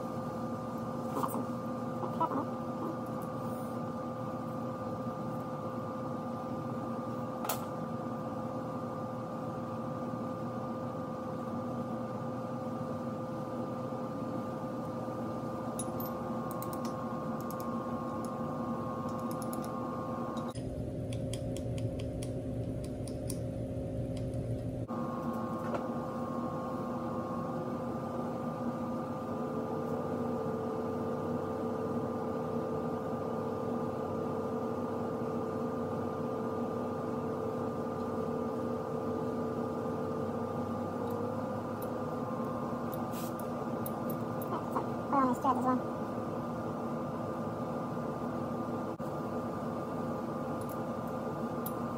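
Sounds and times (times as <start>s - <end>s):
steady hum with held tones: 0.0s - 51.9s.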